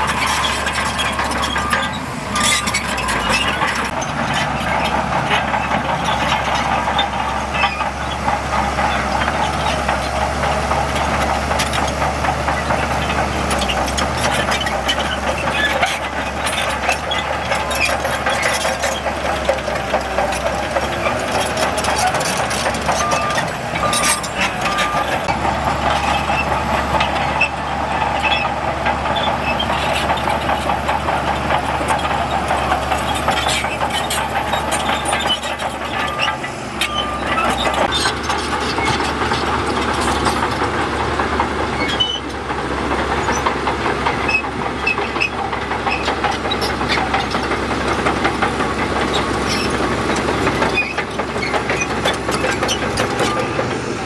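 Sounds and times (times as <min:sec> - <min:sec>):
heavy machinery rattling: 0:00.0 - 0:54.0.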